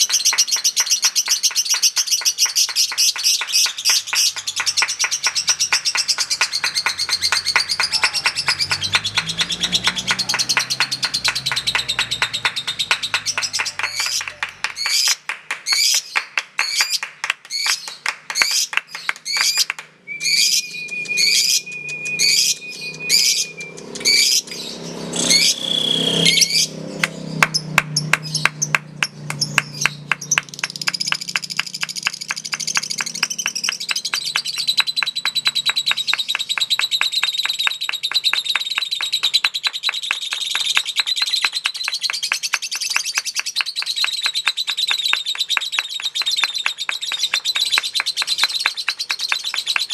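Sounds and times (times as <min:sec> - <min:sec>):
lovebird chirping: 0:00.0 - 0:15.1, 0:19.3 - 0:49.9
bird fast chatter: 0:00.0 - 0:25.7, 0:28.0 - 0:49.9.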